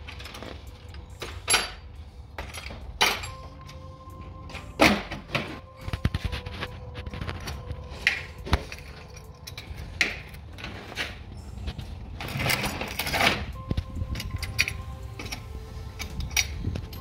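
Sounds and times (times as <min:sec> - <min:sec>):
metal clinks and scrapes: 0:00.0 - 0:17.0.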